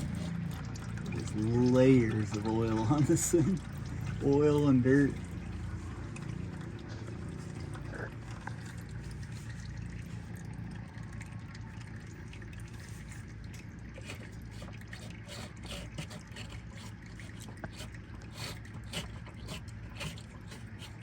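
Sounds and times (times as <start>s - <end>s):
oil trickling into drain pan: 0.0s - 21.0s.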